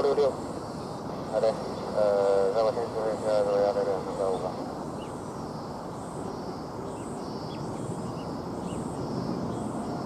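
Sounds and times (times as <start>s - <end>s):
low rush of distant noise: 0.0s - 10.0s.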